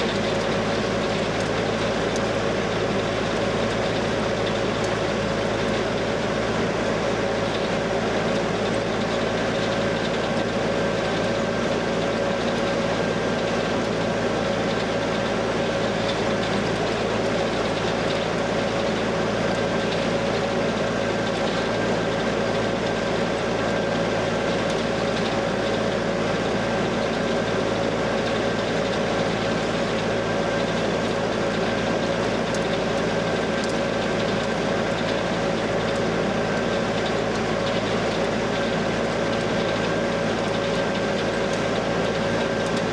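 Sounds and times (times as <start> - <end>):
constant machinery whine: 0.0 - 42.9
diesel engine under load: 0.0 - 42.9.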